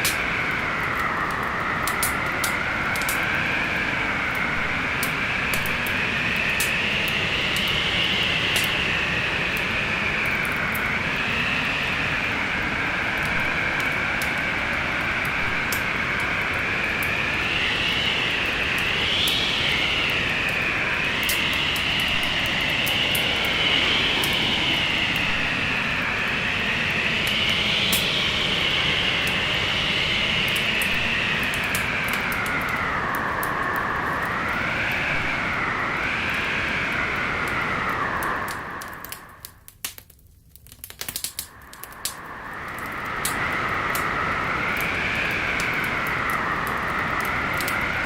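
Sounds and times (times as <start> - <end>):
storm wind blowing: 0.0 - 39.7, 41.2 - 48.0
wood fire crackling: 0.0 - 48.0.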